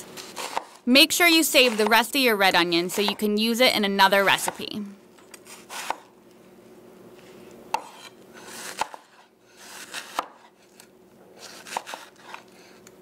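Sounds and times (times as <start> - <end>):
knife slicing onion: 0.0 - 3.6, 4.2 - 6.1, 7.7 - 12.8.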